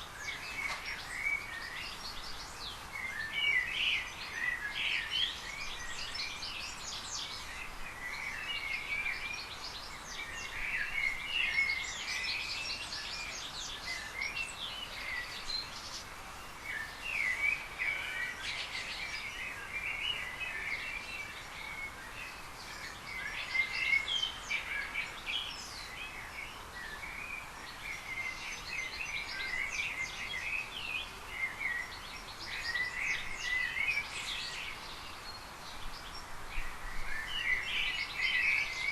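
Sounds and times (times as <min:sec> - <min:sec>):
background hiss: 0:00.0 - 0:38.9
small birds chirping: 0:00.0 - 0:38.9.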